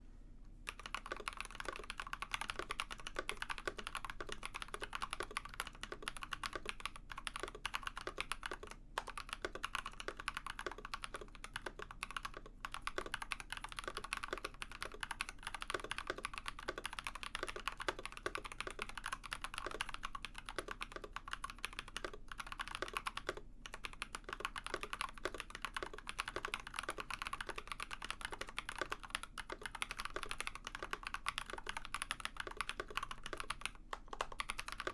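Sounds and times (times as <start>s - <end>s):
fast typing on mechanical keyboard: 0.7s - 34.9s.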